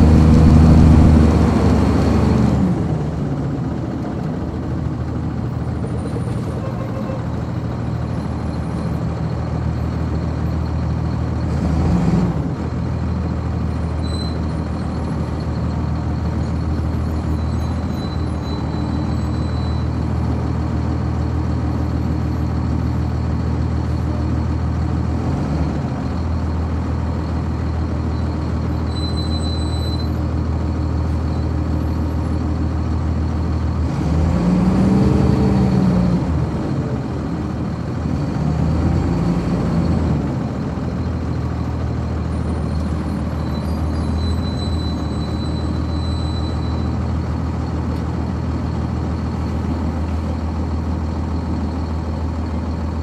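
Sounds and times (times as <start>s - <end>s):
bus diesel engine revving: 0.0s - 29.0s, 29.9s - 53.0s.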